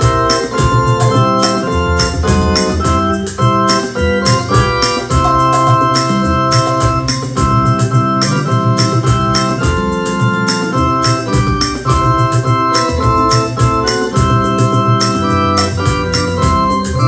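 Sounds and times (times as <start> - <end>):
hymn on electronic keyboard: 0.0 - 17.0.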